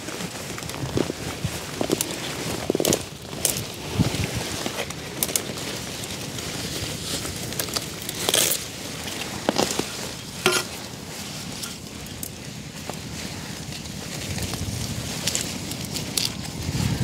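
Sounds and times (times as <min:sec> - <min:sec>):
leaves and stalks rustling: 0:00.0 - 0:17.0.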